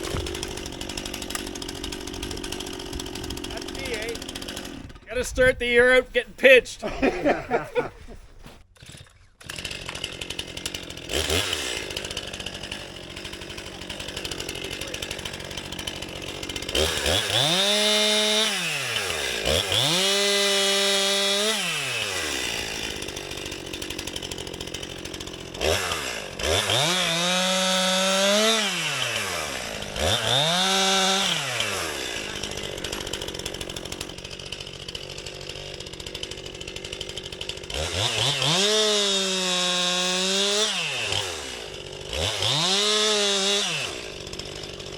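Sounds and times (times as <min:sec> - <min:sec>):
chainsaw revving: 0:00.0 - 0:05.3, 0:08.8 - 0:44.9.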